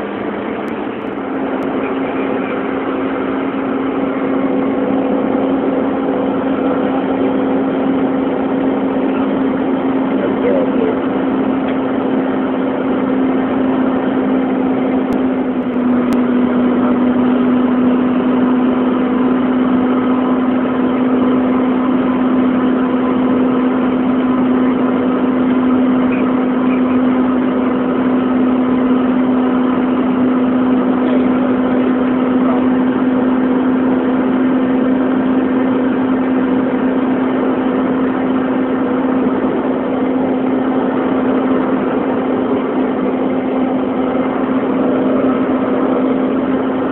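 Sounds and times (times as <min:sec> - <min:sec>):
jet engine hum: 0:00.0 - 0:46.9.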